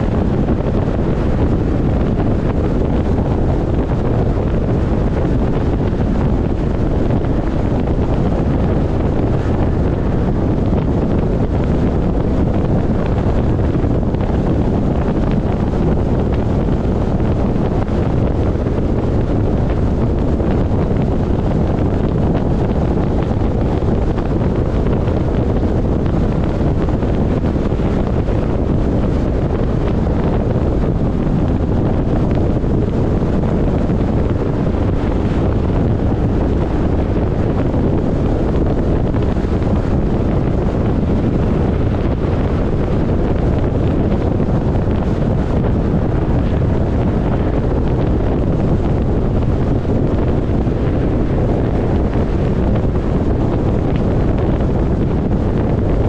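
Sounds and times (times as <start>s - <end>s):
car road and wind noise: 0.0s - 56.0s.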